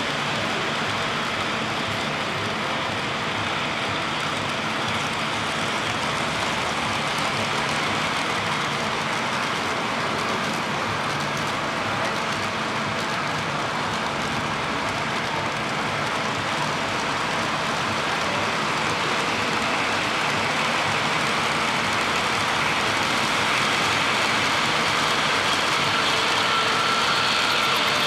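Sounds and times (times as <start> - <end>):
model train wheels clattering on rails: 0.0 - 28.0.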